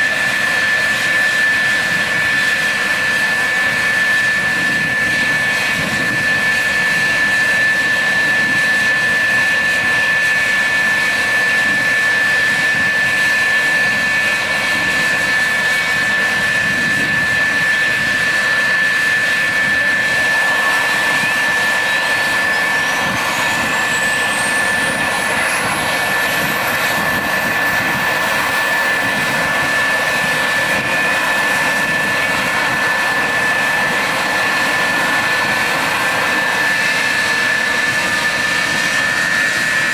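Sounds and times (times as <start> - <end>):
jet turbine whine rising: 0.0 - 39.9
steady high whine: 0.0 - 39.9.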